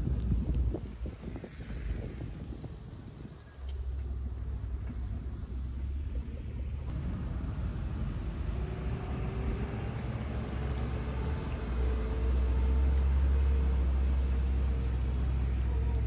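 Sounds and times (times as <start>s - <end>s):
jeep engine and road rumble: 0.0s - 16.0s.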